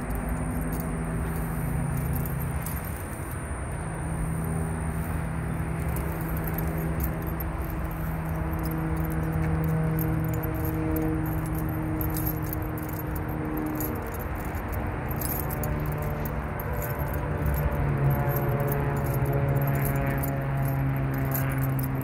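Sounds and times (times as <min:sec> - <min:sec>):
jingling rattle: 0:00.0 - 0:22.0
steady low hum: 0:00.0 - 0:22.0.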